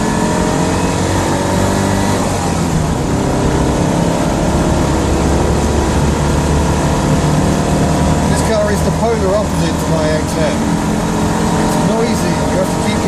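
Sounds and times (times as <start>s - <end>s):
car engine droning: 0.0s - 13.0s
road and wind noise: 0.0s - 13.0s.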